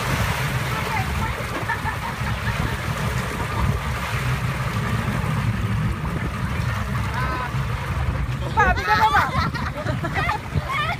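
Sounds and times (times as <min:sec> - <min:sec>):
motorboat engine drone: 0:00.0 - 0:10.9
water churning: 0:00.0 - 0:10.9
wind on microphone: 0:00.0 - 0:10.9.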